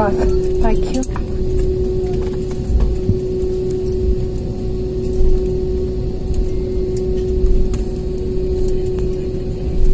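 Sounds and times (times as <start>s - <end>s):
airliner wheels and engines rumbling: 0.0s - 9.9s
steady hum: 0.0s - 9.9s.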